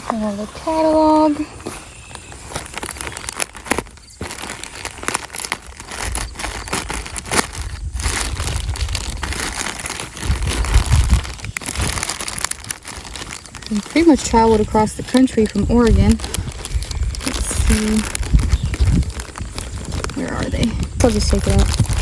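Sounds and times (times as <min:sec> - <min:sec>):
packing material crinkling: 0:00.0 - 0:22.0.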